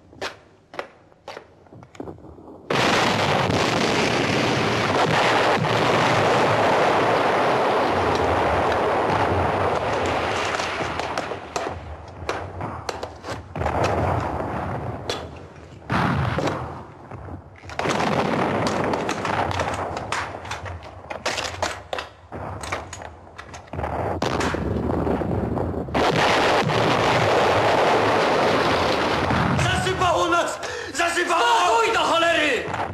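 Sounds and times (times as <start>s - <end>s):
heavy explosions: 2.0s - 20.8s, 22.3s - 30.5s.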